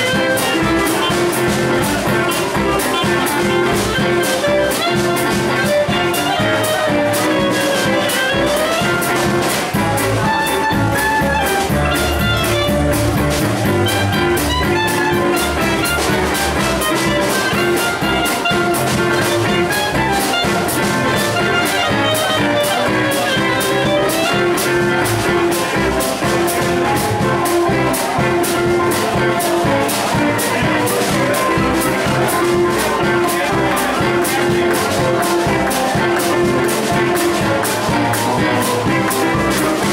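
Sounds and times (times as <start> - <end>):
clarinet melody: 0.0 - 39.9
swing jazz band playing: 0.0 - 39.9.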